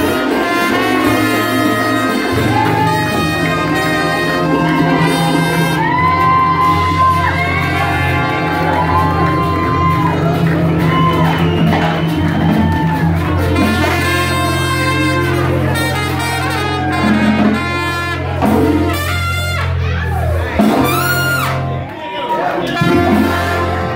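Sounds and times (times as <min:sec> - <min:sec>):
low bass notes: 0:00.0 - 0:22.0, 0:22.6 - 0:23.9
brass band playing jazz: 0:00.0 - 0:23.9.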